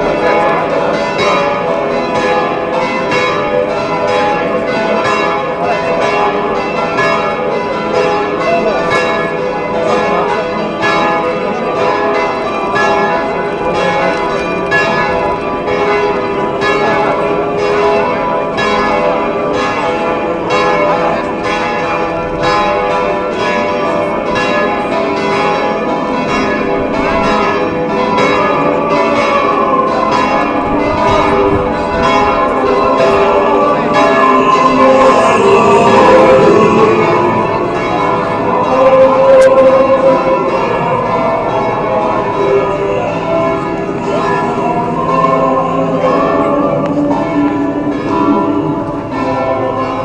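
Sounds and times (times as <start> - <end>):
church bells pealing: 0.0 - 50.0.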